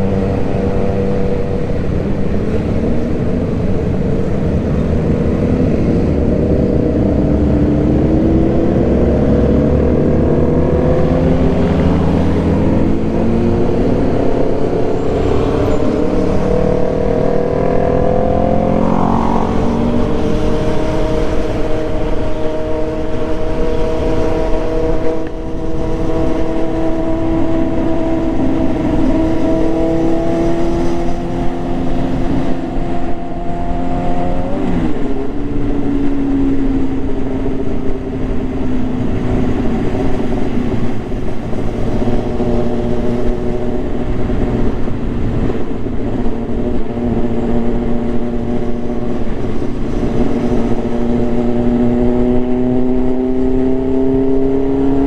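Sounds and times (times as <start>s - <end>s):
wind noise: 0.0s - 55.0s.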